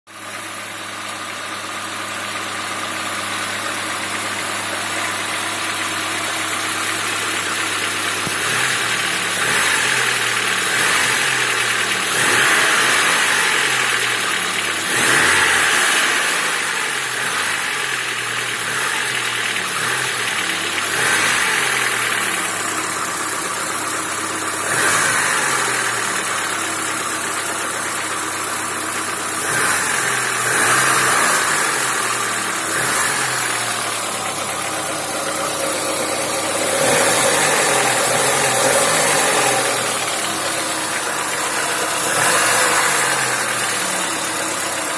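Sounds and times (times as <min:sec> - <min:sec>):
car engine idling and revving: 0:00.1 - 0:44.9
engine knocking: 0:00.1 - 0:44.9.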